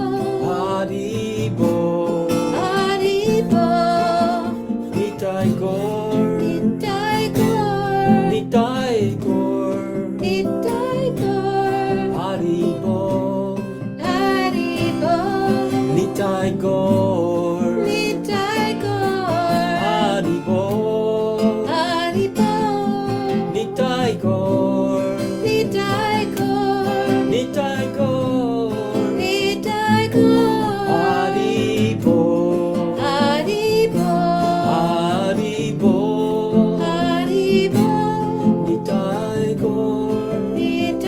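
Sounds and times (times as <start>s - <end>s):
person singing devotional melody: 0.0s - 41.0s
plucked string accompaniment: 0.0s - 41.0s.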